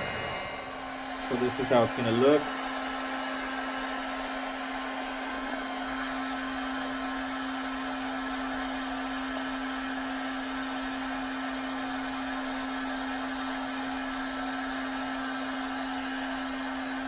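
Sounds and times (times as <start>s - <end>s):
hot-air blower fan whir: 0.0s - 17.0s.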